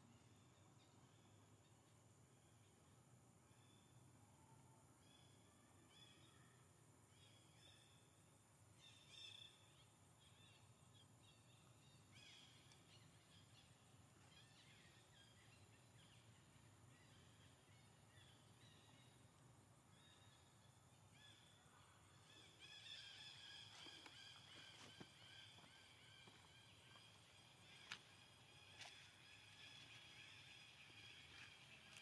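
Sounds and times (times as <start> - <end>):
faint high chirping calls: 5.0 - 8.2, 8.8 - 32.0.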